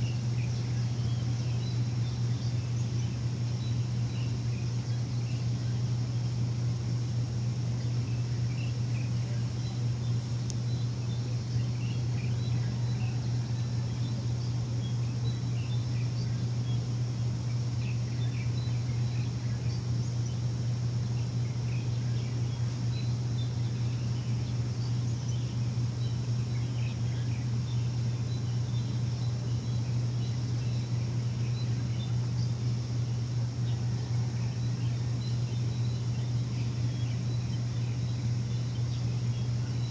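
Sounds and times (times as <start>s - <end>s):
machine humming: 0.0s - 39.9s
small birds chirping: 0.0s - 39.9s.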